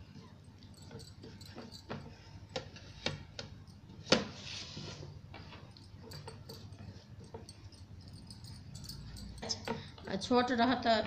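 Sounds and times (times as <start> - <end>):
glass bangles clinking: 0.4 - 4.1, 5.4 - 10.6.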